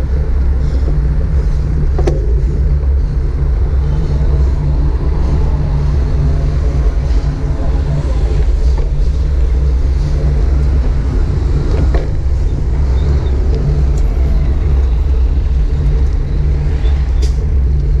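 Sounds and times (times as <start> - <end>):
road noise while cycling: 0.0 - 18.0
wind buffeting microphone: 0.0 - 18.0.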